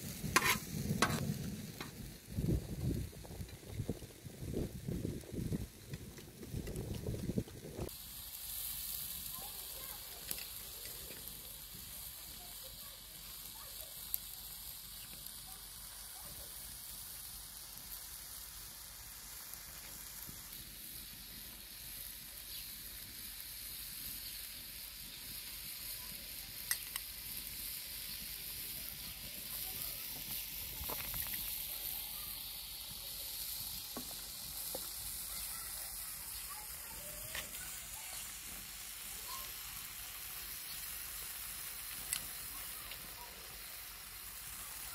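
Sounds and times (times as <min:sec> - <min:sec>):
food sizzling in iron pan: 0:00.0 - 0:44.9.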